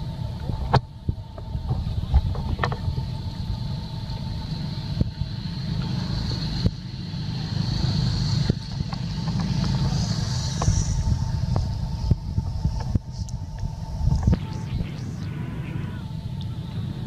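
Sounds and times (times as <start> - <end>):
continuous high hiss: 0.0 - 17.0
outdoor background rumble: 0.0 - 17.0.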